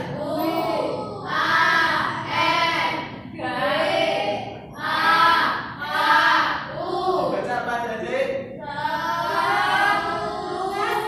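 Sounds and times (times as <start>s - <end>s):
group chanting in unison: 0.0s - 7.3s, 8.6s - 11.0s.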